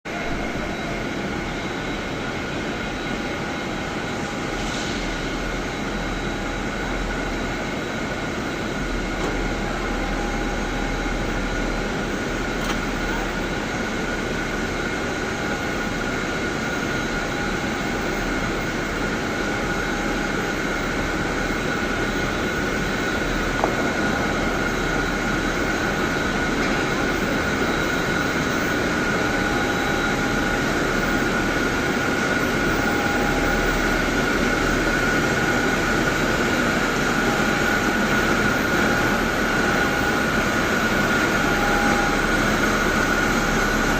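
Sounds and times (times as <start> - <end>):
jet engine whining: 0.1 - 43.9.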